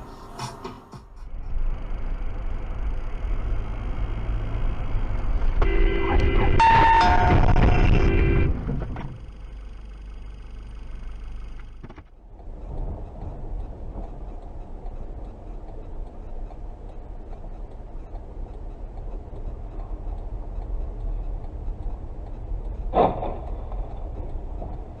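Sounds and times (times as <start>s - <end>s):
car engine and tyre rumble: 1.1s - 25.0s.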